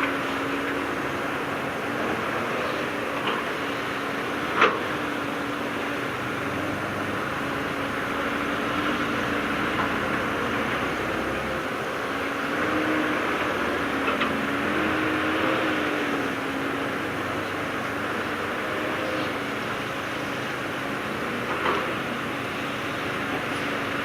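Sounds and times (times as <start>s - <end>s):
diesel engine of heavy machinery: 0.0s - 24.0s.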